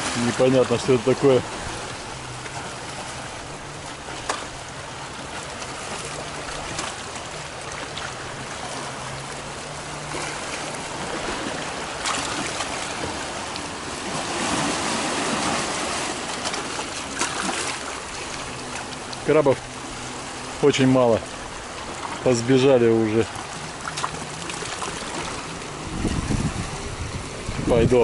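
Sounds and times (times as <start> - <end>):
waves washing over rocks: 0.0 - 28.0.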